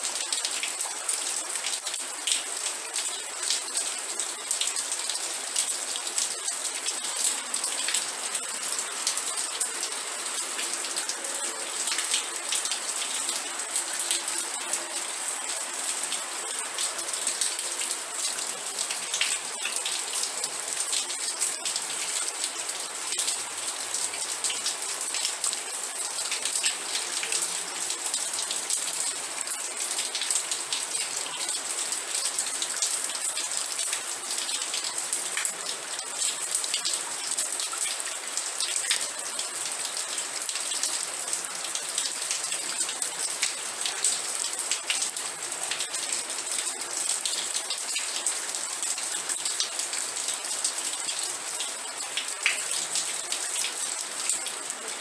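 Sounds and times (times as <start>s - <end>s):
raindrops pattering on a surface: 0.0s - 55.0s.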